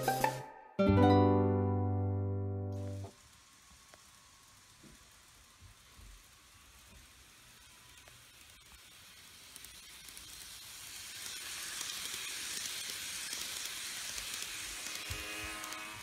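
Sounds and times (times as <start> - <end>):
model train running on track: 3.0 - 16.0.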